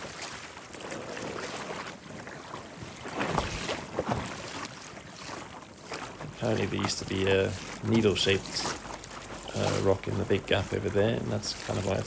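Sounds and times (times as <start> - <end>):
water splashing against kayak hull: 0.0 - 12.0.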